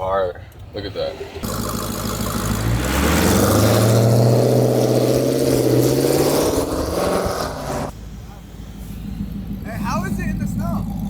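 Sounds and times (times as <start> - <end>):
car engine accelerating: 1.0 - 11.0.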